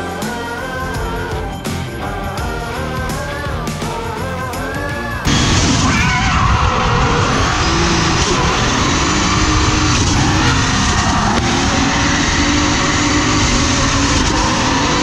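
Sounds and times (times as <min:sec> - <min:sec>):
car engine running: 0:00.0 - 0:15.0
music: 0:00.0 - 0:15.0.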